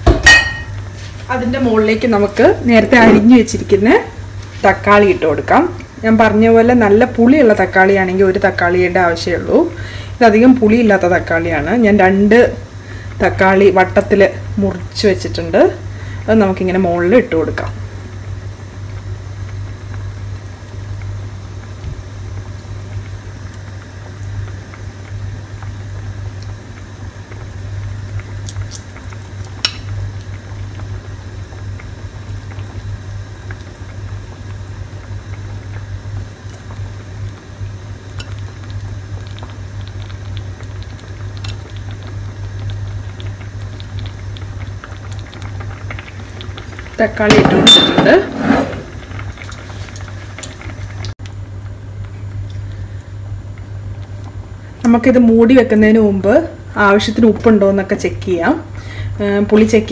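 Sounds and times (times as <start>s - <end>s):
gas burner low rumble: 0.0s - 59.9s
gravy bubbling in a pan: 0.0s - 59.9s.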